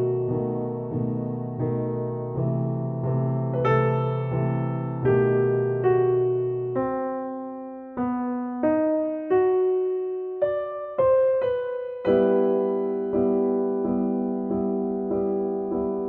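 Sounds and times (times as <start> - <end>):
slow solo piano melody: 0.0 - 16.0.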